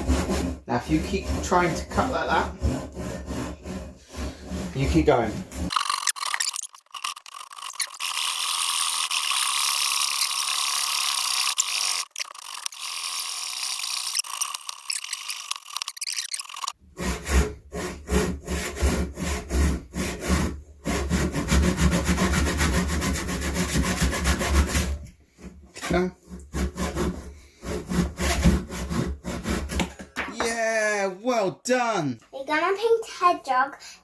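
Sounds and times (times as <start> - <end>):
hand saw cutting wood: 0.0 - 6.1, 7.0 - 25.0, 25.7 - 30.0.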